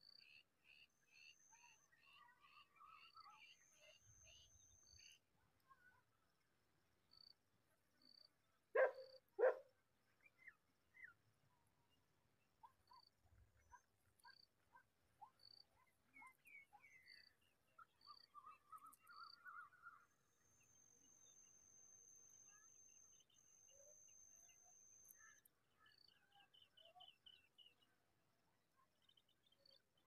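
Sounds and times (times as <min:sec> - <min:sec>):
small bird calls and chirps: 0:00.0 - 0:06.1, 0:10.1 - 0:28.0, 0:28.7 - 0:30.0.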